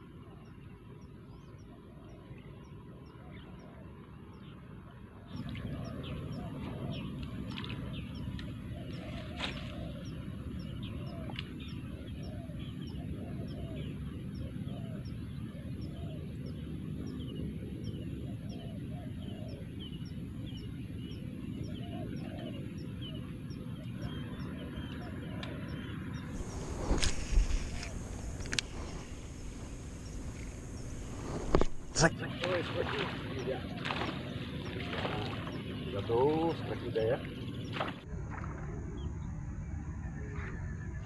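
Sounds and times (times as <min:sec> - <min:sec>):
low background rumble: 0:00.0 - 0:41.0.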